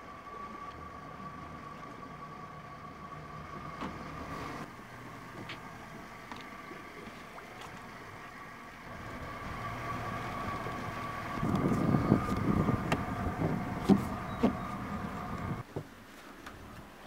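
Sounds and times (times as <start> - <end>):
boat engine idling: 0.0 - 15.6.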